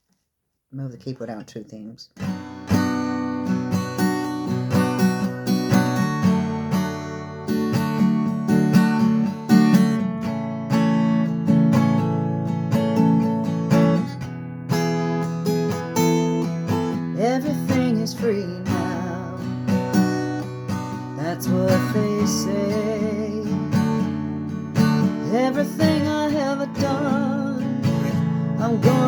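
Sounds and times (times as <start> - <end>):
acoustic guitar strumming chords: 2.2 - 29.0.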